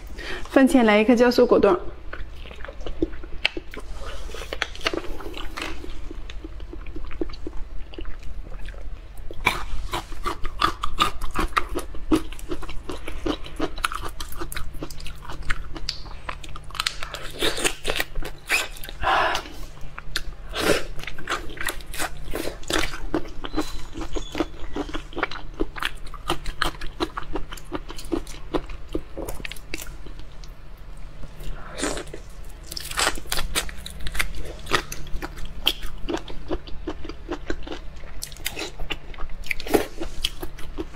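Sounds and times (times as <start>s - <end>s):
biting and chewing: 2.1s - 30.6s, 31.4s - 40.9s.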